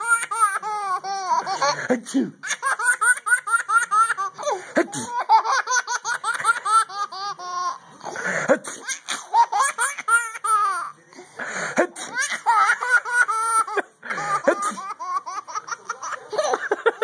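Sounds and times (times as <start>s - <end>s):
baby laughing: 0.0s - 11.0s, 12.0s - 17.0s.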